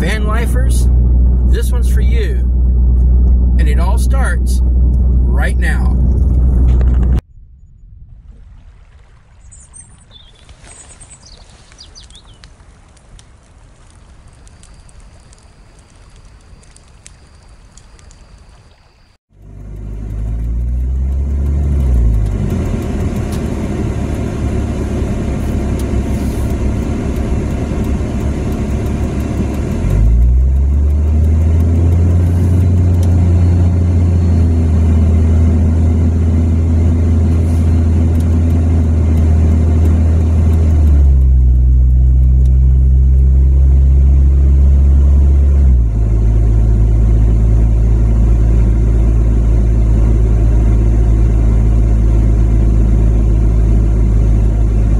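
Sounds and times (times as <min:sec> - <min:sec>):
vehicle engine drone and road noise: 0:00.0 - 0:08.4, 0:09.3 - 0:54.9.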